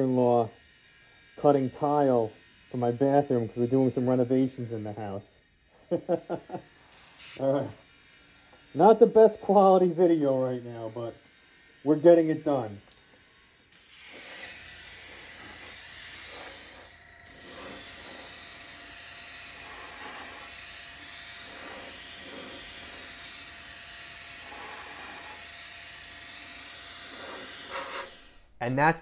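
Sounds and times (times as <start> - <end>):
airbrush spraying paint: 0.0 - 28.5.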